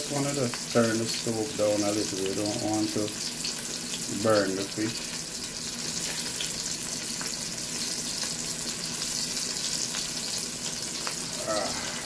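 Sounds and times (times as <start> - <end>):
fish frying in oil sizzling: 0.0 - 12.0.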